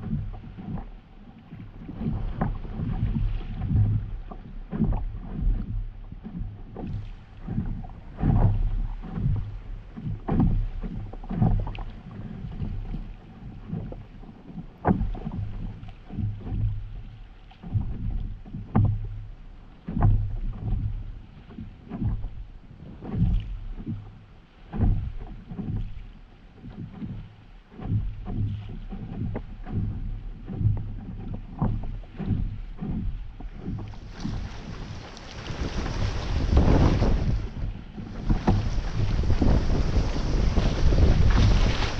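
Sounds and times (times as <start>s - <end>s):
paddle strokes splashing: 0.0s - 41.9s.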